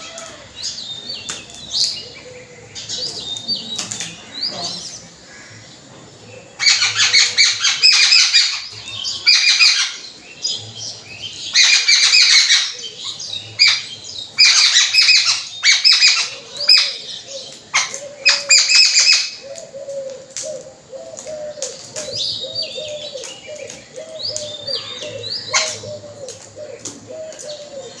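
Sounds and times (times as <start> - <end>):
birds screeching chatter: 0.0 - 28.0.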